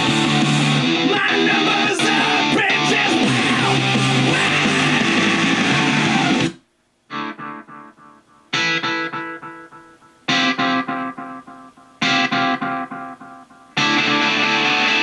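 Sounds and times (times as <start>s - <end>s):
guitar music from speakers: 0.0s - 15.0s
strummed guitar chords: 0.0s - 15.0s.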